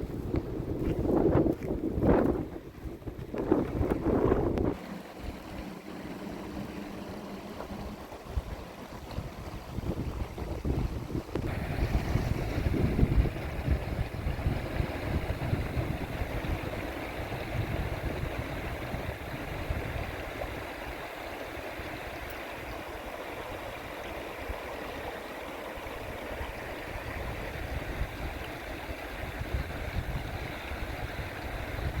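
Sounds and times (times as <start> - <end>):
river water running: 0.0 - 32.0
wind buffeting microphone: 0.0 - 32.0.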